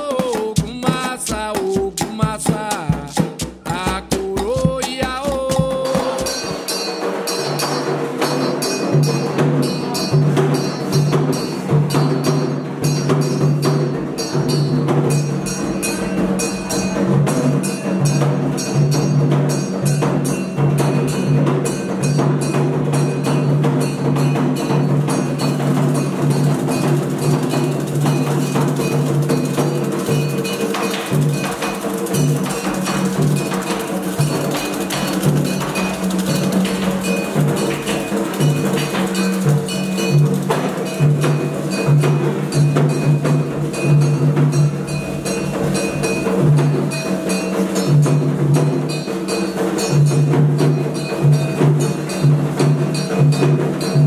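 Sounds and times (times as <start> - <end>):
drums beaten with sticks: 0.0 - 54.0
metal bell ringing: 4.3 - 54.0.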